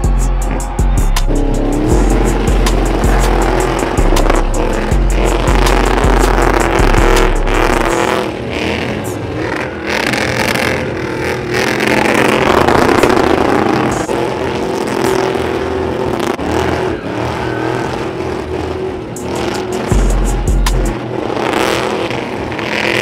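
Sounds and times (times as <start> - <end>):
truck engine revving high: 0.0 - 23.0.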